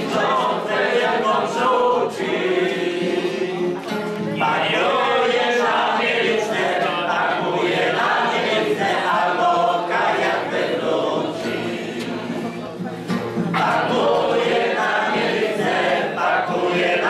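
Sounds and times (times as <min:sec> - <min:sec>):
group of people singing: 0:00.0 - 0:17.0.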